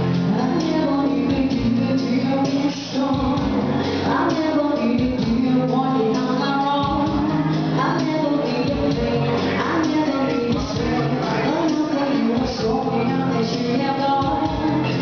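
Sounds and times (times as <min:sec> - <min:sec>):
bass line: 0:00.0 - 0:15.0
live band playing: 0:00.0 - 0:15.0
person singing: 0:00.0 - 0:15.0.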